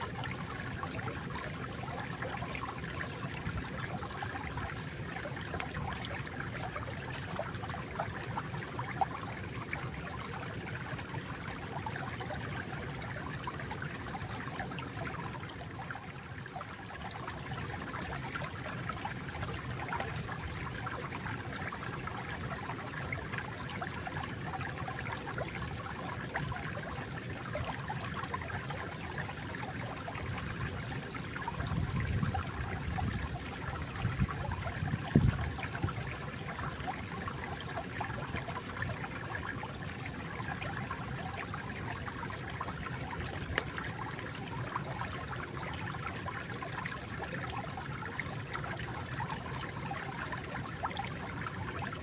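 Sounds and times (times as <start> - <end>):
small stream trickling: 0.0 - 52.0.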